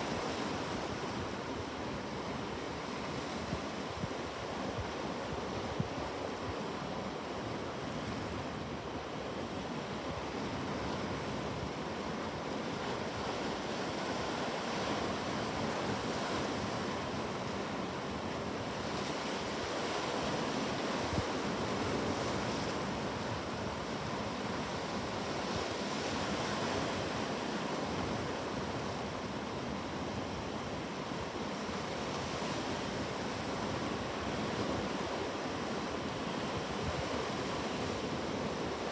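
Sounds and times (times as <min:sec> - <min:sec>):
ocean waves washing on shore: 0:00.0 - 0:38.9.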